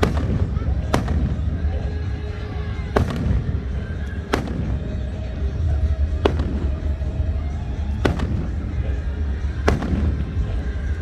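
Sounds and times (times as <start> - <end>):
fireworks bangs: 0.0 - 11.0
steady low rumble: 0.0 - 11.0.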